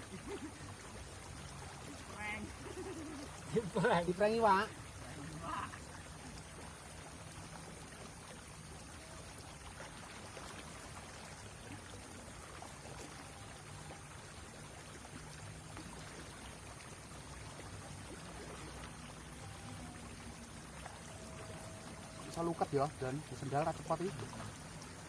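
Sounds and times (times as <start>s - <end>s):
small river flowing: 0.0s - 25.0s.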